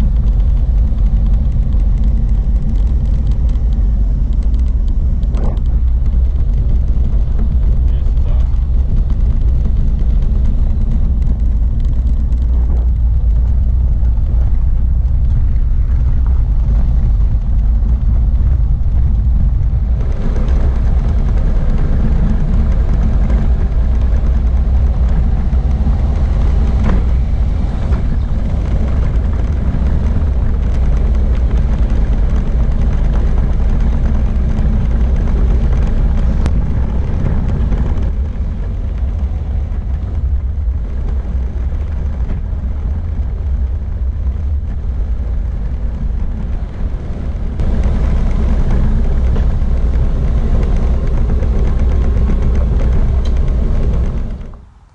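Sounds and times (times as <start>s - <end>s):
motor vehicle rumbling: 0.0s - 54.9s.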